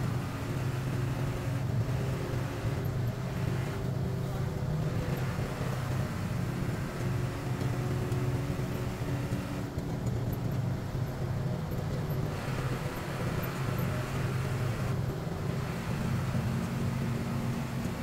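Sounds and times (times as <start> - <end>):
diesel engine drone: 0.0 - 18.0
road and wind noise: 0.0 - 18.0.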